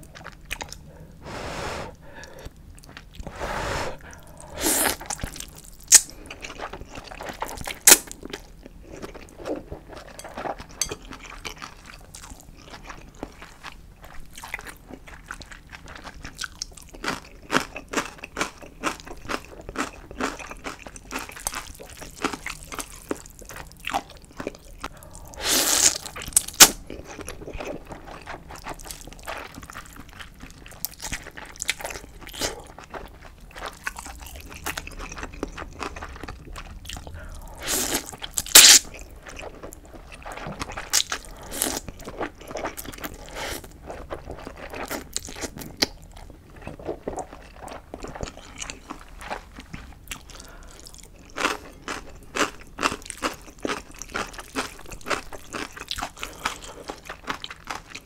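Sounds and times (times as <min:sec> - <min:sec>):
slurping and chewing noodles: 0:00.0 - 0:58.0.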